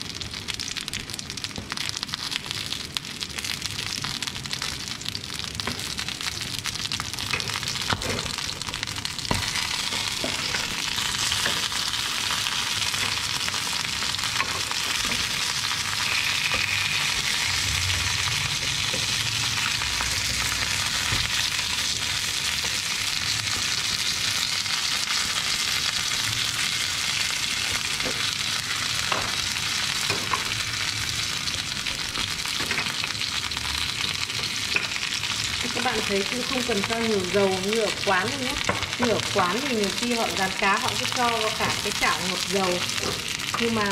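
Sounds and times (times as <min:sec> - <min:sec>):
fish sizzling in a frying pan: 0:00.0 - 0:43.9.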